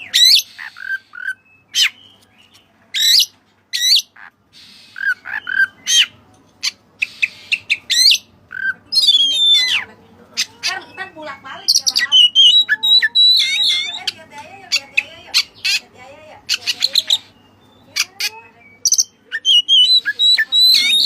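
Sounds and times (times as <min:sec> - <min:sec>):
bird whistled song: 0:00.0 - 0:09.8, 0:10.9 - 0:15.8, 0:16.5 - 0:21.0.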